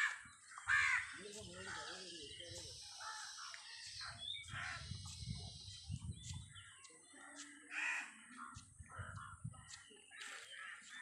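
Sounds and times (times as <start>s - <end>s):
bird calls: 0.0s - 11.0s.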